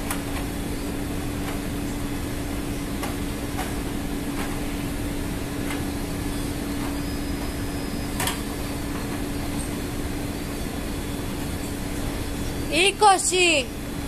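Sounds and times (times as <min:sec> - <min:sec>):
ship machinery droning: 0:00.6 - 0:14.0.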